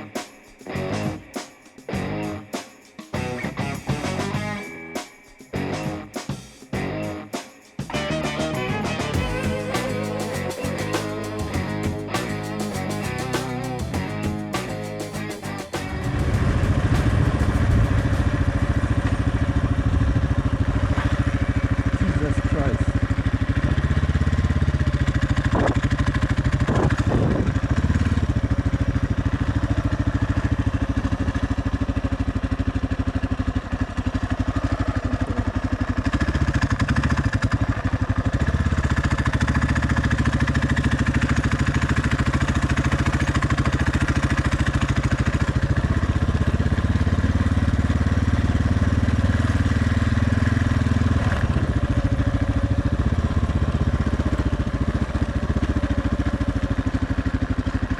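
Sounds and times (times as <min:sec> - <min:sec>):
motorcycle engine running: 0:00.0 - 0:04.8, 0:05.5 - 0:57.9.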